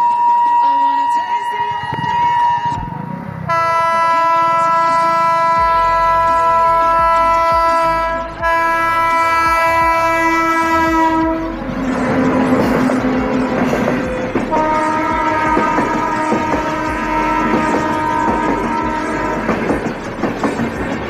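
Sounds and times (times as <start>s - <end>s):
train horn blast: 0.0s - 13.8s, 14.4s - 19.8s
train wheels clattering past: 3.7s - 21.0s.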